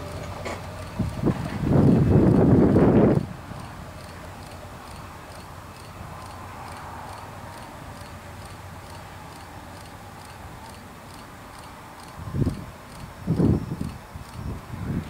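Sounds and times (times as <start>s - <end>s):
faint outdoor background noise: 0.0s - 15.0s
soft even ticking: 0.0s - 15.0s.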